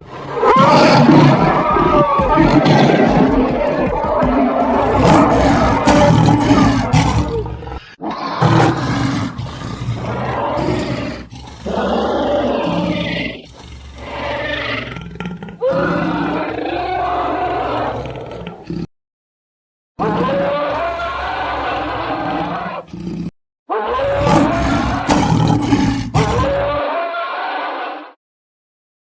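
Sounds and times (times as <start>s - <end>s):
dinosaur roar: 0.0s - 18.9s, 20.0s - 28.2s.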